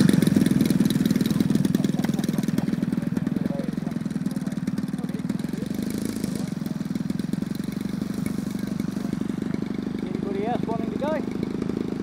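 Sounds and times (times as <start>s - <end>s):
model plane engine idling: 0.0s - 12.0s.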